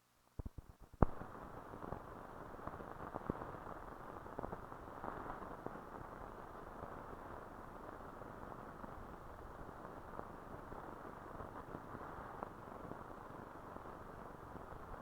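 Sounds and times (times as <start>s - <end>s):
film soundtrack hiss and crackle: 0.0s - 15.0s.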